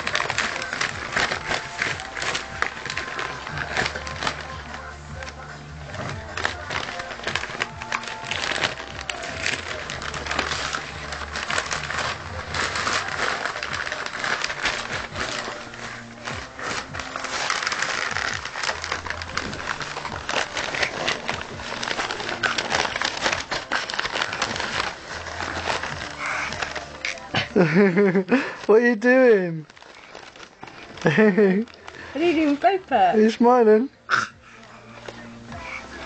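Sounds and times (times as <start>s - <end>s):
newspaper rustling and crinkling: 0.0s - 33.5s.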